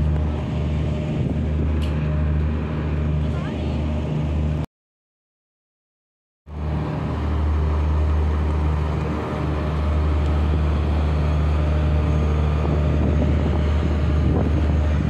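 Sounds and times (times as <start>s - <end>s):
ferry engines droning: 0.0s - 4.7s, 6.5s - 15.0s.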